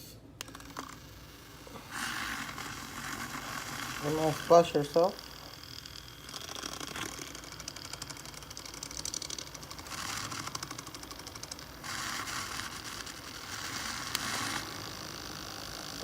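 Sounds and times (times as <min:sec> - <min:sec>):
milk frother whirring: 0:00.4 - 0:16.0.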